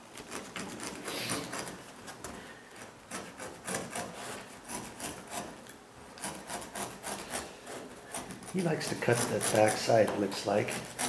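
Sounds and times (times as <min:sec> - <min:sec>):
knife cutting through carpet: 0:00.0 - 0:02.2, 0:02.8 - 0:05.6, 0:06.2 - 0:11.0.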